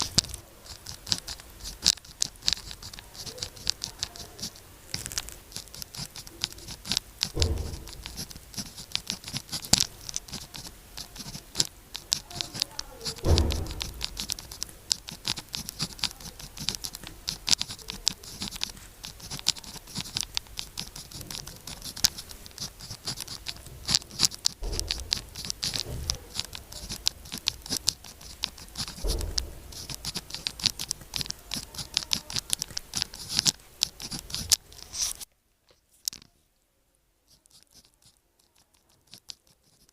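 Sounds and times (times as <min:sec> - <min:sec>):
dull thumps: 0:00.0 - 0:35.2
pen scratching on paper: 0:00.0 - 0:35.3, 0:37.3 - 0:39.9.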